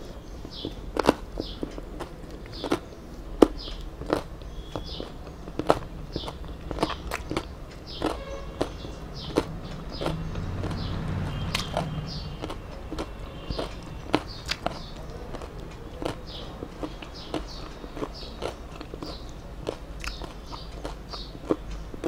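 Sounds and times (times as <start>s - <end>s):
chewing and lip-smacking: 0.4s - 22.0s.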